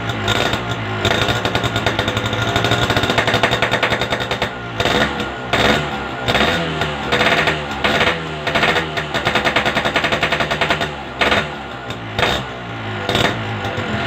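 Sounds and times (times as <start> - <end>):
exhaust popping: 0.0 - 14.0
motorcycle engine revving: 0.0 - 14.0.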